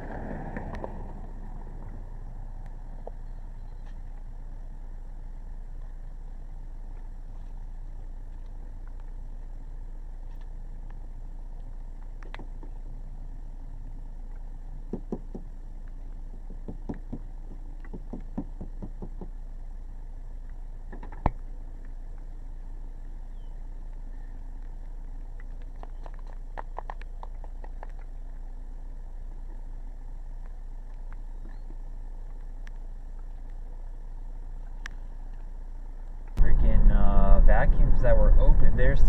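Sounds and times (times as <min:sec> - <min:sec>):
steady low rumble: 0:00.0 - 0:18.4, 0:19.3 - 0:39.0.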